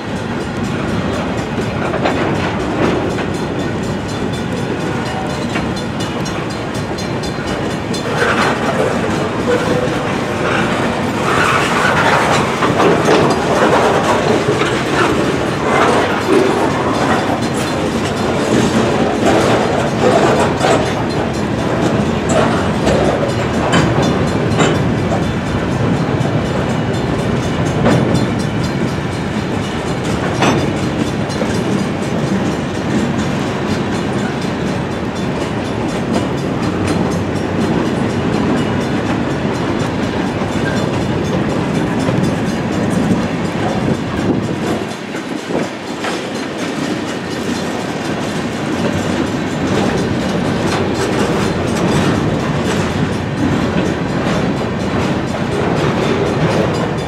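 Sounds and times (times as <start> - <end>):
freight train wheels rumbling on rail: 0.0 - 57.0
wheels clacking over rail joints: 0.0 - 57.0.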